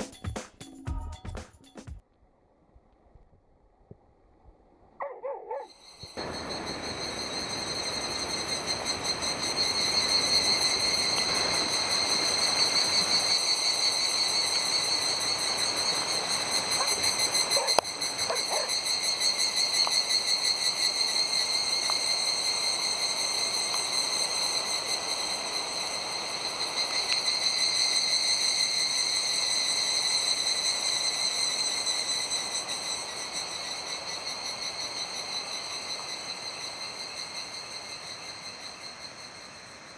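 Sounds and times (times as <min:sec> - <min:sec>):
cicadas buzzing: 0:05.0 - 0:39.9.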